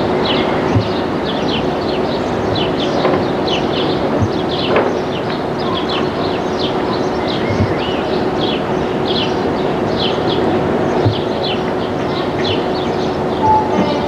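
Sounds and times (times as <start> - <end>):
electric railcar hum: 0.0 - 14.0
small birds chirping: 0.0 - 14.0.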